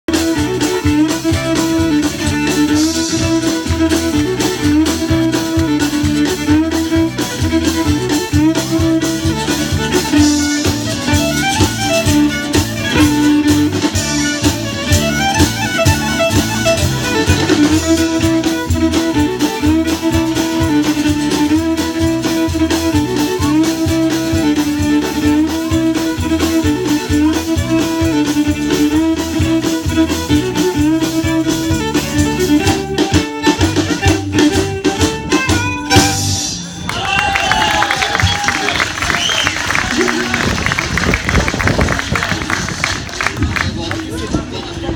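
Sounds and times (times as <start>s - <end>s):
fiddle: 0.0s - 44.9s
steady drum beat: 0.0s - 44.9s
electric and acoustic guitars: 0.1s - 43.5s.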